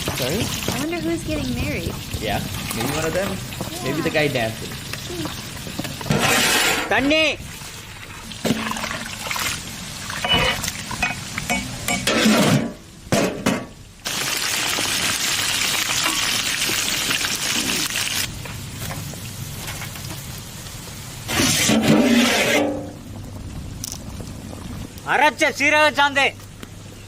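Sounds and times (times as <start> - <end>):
curry sizzling in a pot: 0.0 - 12.2, 13.8 - 25.0.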